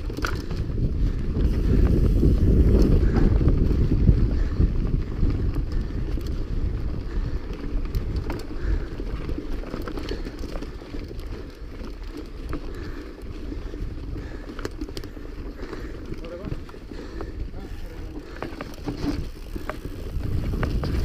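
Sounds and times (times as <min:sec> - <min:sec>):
bike rattling over rough ground: 0:00.0 - 0:21.0
wind buffeting microphone: 0:00.0 - 0:21.0.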